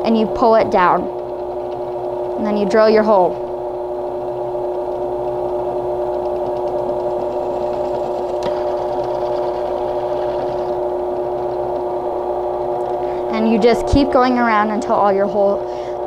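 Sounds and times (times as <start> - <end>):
drill press motor humming: 0.0 - 16.0.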